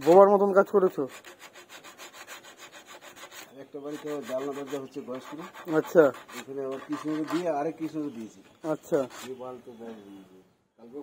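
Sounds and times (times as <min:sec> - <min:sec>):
hand tool scraping wood: 0:00.0 - 0:09.7.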